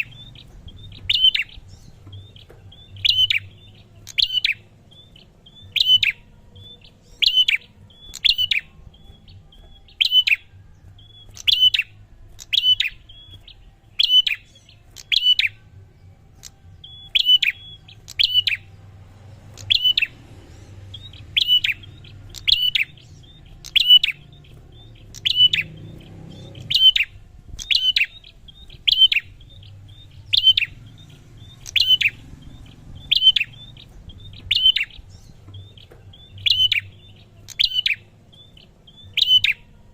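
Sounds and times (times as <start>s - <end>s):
bird sharp chirps: 0.0s - 39.9s.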